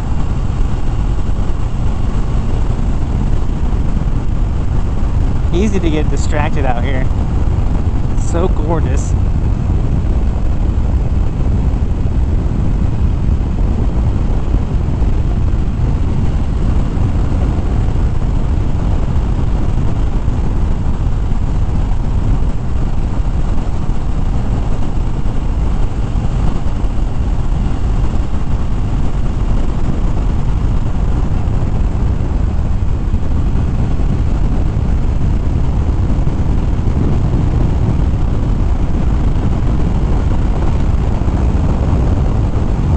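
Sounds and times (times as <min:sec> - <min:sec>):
motorcycle engine cruising: 0:00.0 - 0:42.9
wind rushing over microphone: 0:00.0 - 0:42.9.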